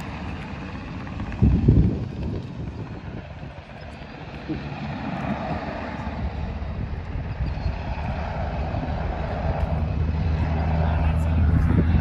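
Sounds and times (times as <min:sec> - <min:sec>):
distant helicopter rotor rumble: 0:00.0 - 0:12.0.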